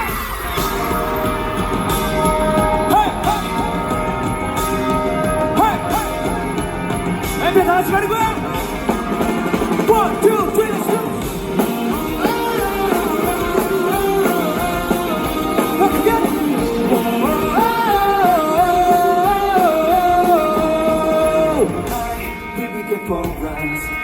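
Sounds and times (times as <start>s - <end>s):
person singing: 0.0s - 6.6s, 9.8s - 24.0s
drums: 0.0s - 24.0s
electric guitars: 0.0s - 24.0s.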